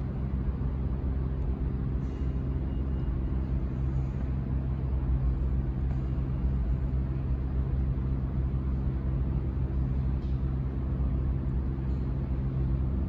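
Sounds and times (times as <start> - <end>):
subway train rumbling in tunnel: 0.0 - 13.0.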